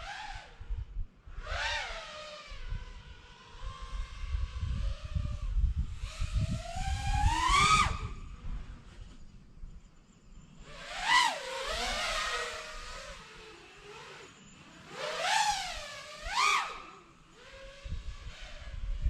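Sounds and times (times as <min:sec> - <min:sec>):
drone propellers whining: 0:01.4 - 0:09.2, 0:10.4 - 0:19.0.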